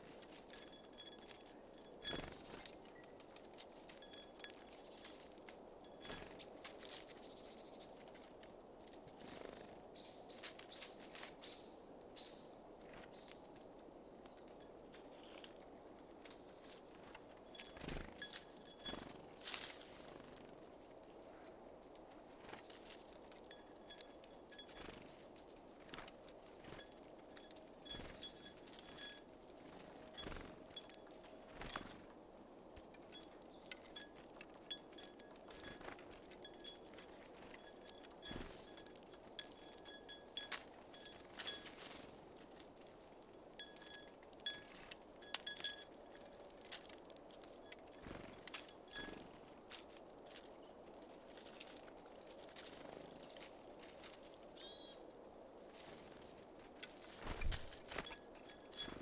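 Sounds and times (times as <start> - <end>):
songbirds calling faintly: 0.0 - 59.0.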